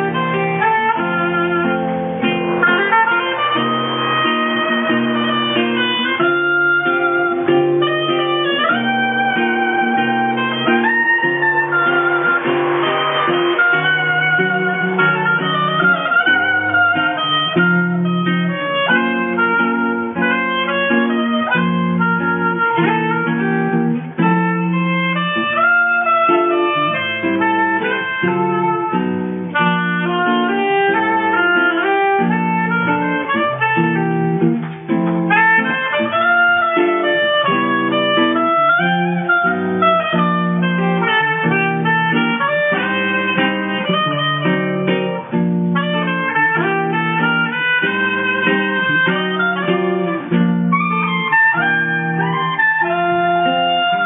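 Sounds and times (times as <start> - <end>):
acoustic guitar chords: 0.0 - 54.0
oboe gliding melody: 0.0 - 54.0.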